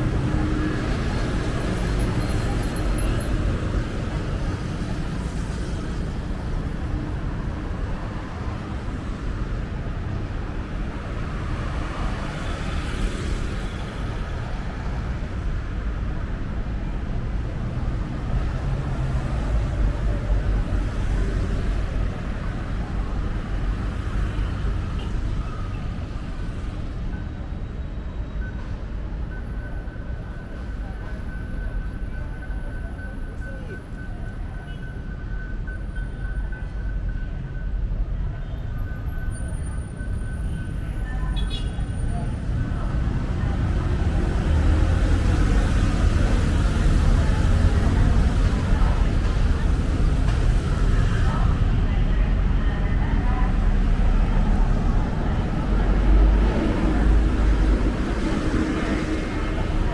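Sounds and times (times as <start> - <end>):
city traffic rumble: 0.0 - 59.9.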